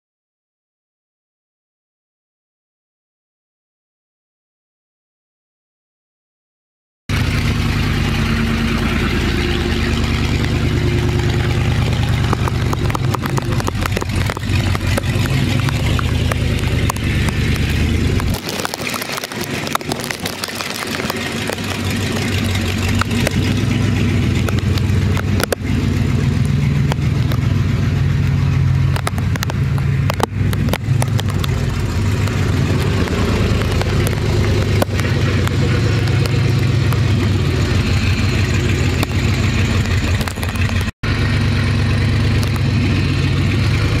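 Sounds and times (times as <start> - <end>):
loud unmuffled engine running: 7.1 - 44.0.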